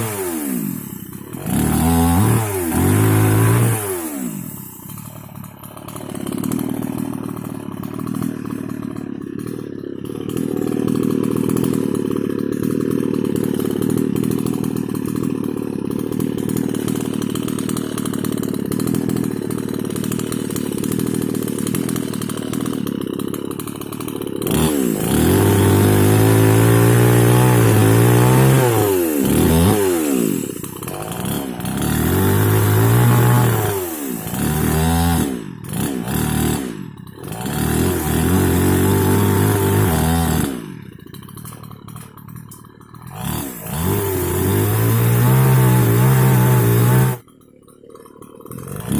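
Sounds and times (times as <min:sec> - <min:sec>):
mini chainsaw revving: 0:00.0 - 0:48.9.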